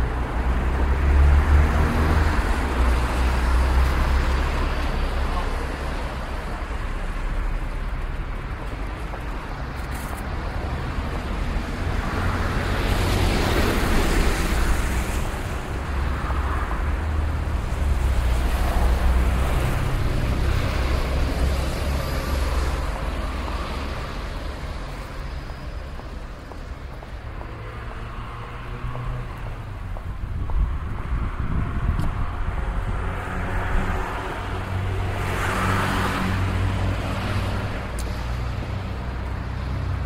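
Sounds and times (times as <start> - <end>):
cars passing: 0.0 - 40.0
rumble of traffic engines: 0.0 - 40.0.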